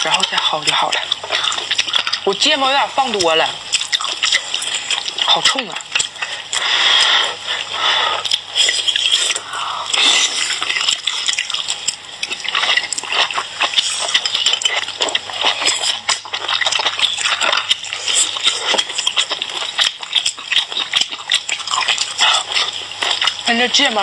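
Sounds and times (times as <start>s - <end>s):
wet chewing and slurping: 0.0s - 24.0s.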